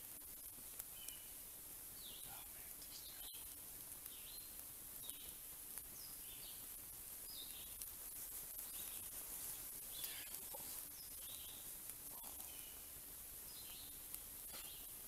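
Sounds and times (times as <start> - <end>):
campfire crackles: 0.0 - 15.0
steady high hiss: 0.0 - 15.0
bird chirping: 0.9 - 1.3, 1.9 - 7.8, 8.5 - 15.0.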